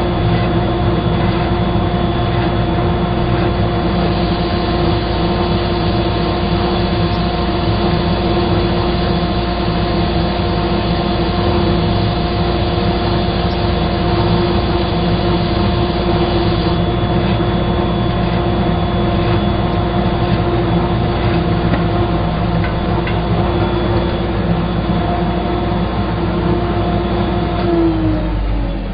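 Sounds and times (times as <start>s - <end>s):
woodworking power tool whine: 0.0s - 28.9s.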